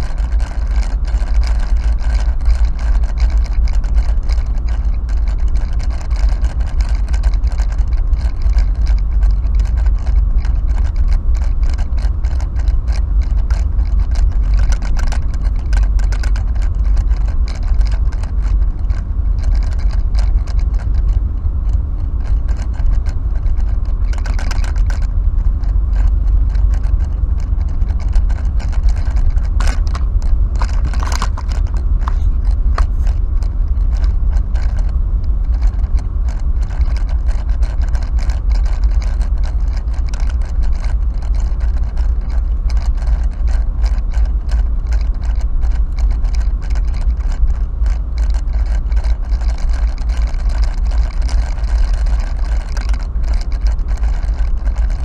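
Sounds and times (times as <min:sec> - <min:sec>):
light rattles and clicks: 0:00.0 - 0:55.0
rasping sounds: 0:00.0 - 0:55.0
road and engine rumble: 0:00.0 - 0:55.0.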